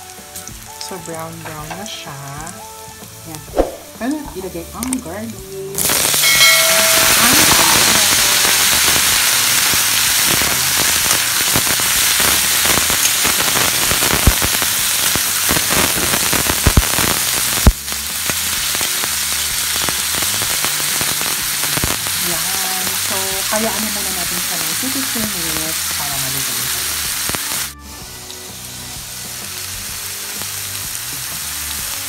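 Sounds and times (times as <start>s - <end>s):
vegetables sizzling in hot oil: 0.0s - 32.0s.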